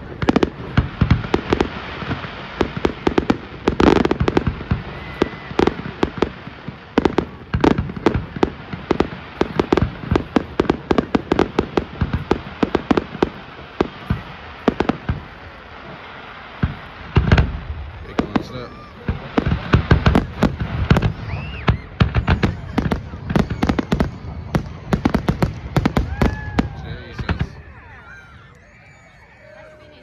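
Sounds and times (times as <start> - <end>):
fireworks bangs: 0.0 - 30.0
fireworks crackle: 0.0 - 30.0
heavy fireworks booms: 0.0 - 30.0.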